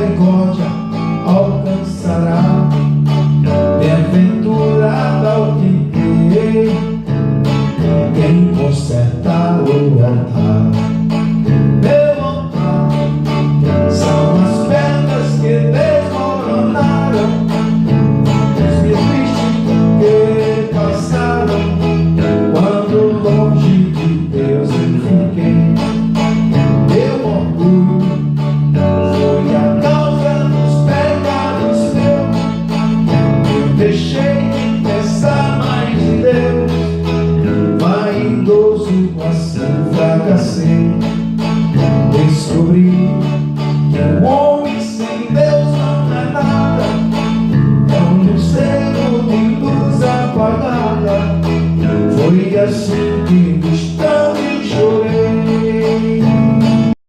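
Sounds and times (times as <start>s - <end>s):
steady bass line: 0.0s - 57.0s
strummed guitar: 0.0s - 57.0s.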